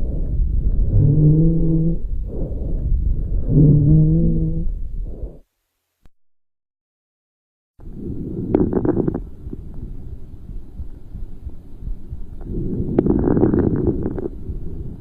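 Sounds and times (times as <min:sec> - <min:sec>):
low musical breath sounds: 0:00.0 - 0:05.6, 0:07.8 - 0:15.0.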